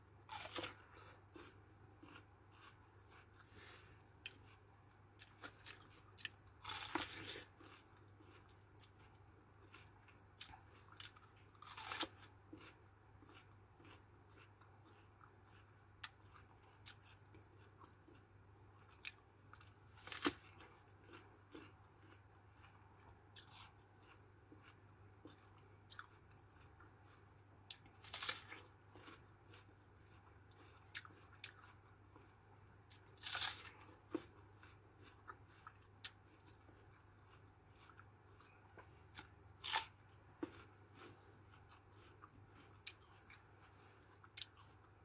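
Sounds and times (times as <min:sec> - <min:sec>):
apple chewing and crunching: 0:00.2 - 0:45.0.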